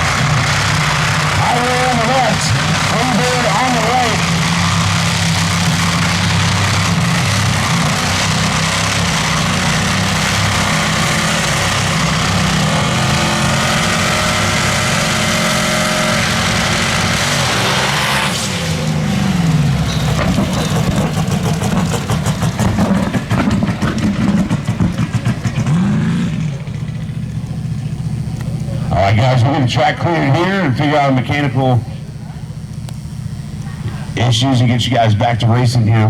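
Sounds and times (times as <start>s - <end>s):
engine revving up and down: 0.0s - 31.5s
drag race car engines running: 0.0s - 36.0s.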